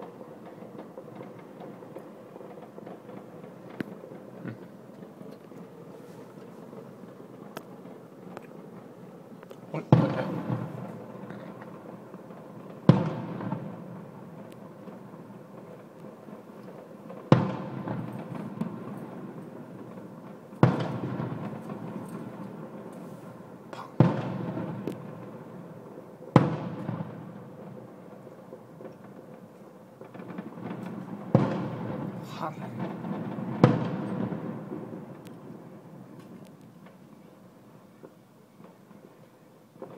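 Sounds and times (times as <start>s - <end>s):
firework shells bursting: 0.0s - 39.9s.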